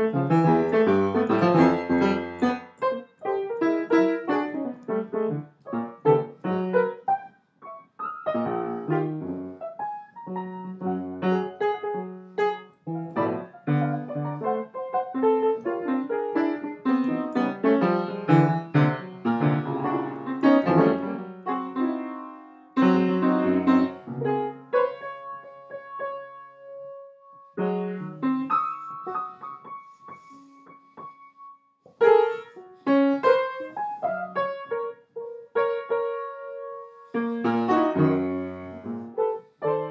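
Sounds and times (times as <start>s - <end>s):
piano playing: 0.0s - 39.9s.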